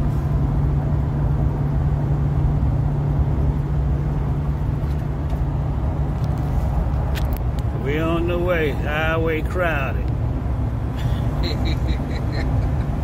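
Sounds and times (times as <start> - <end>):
car cabin road noise: 0.0 - 13.0.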